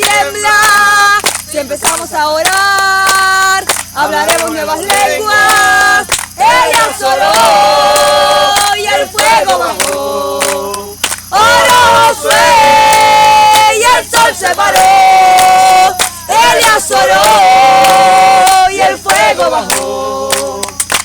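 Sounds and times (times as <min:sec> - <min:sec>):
group singing long notes: 0:00.0 - 0:21.0.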